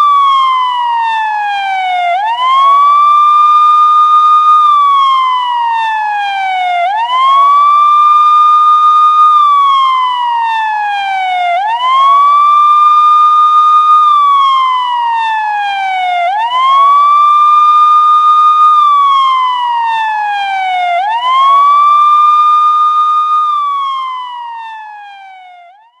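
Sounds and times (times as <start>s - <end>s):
police siren wailing: 0.0s - 26.0s.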